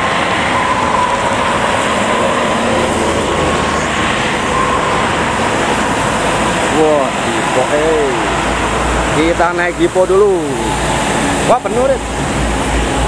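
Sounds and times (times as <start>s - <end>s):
faint steady whine: 0.0s - 13.0s
traffic on wet road: 0.0s - 13.0s.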